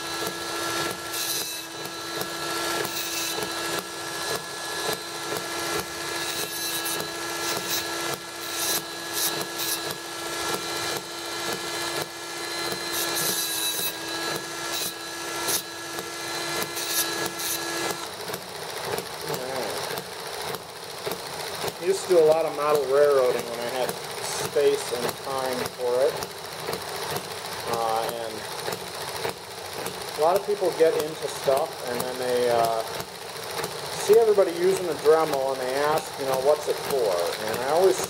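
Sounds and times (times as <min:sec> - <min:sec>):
rotary tool grinding metal pipe: 0:00.0 - 0:38.0.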